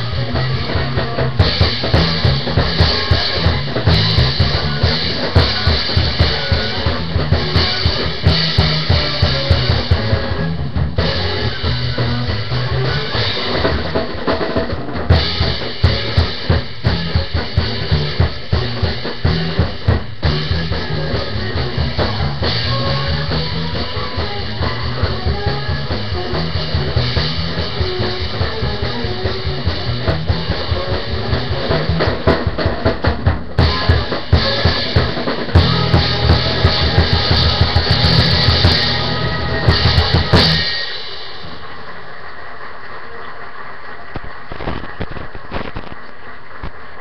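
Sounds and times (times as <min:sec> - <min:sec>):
big band music: 0:00.0 - 0:42.7
drum kit playing: 0:00.0 - 0:43.2.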